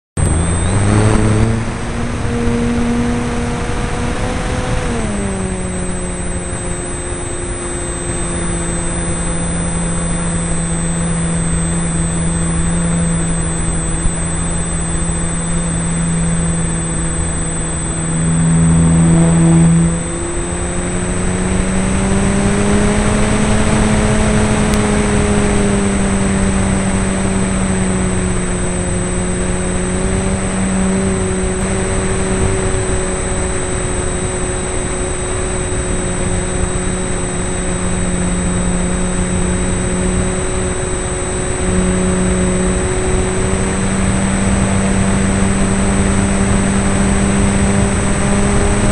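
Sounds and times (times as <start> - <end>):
model airplane motor running: 0.2 - 48.9.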